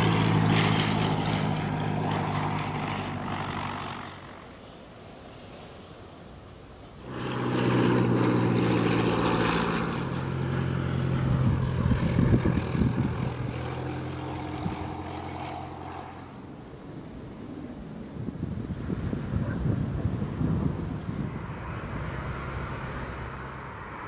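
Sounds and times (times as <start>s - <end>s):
propeller aircraft engines droning: 0.0s - 24.0s.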